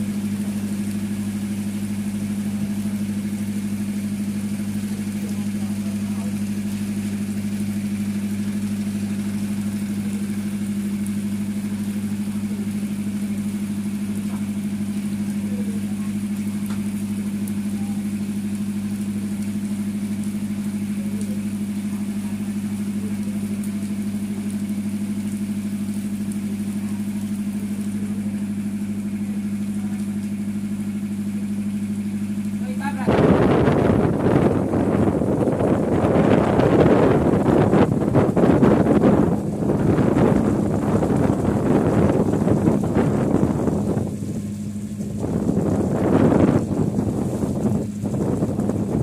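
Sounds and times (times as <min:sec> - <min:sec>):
boat engine idling: 0:00.0 - 0:49.0.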